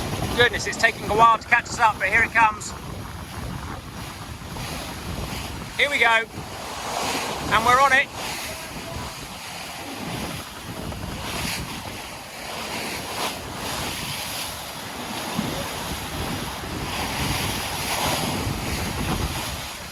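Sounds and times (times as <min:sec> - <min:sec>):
water rushing past hull: 0:00.0 - 0:19.9
wind buffeting microphone: 0:00.0 - 0:19.9.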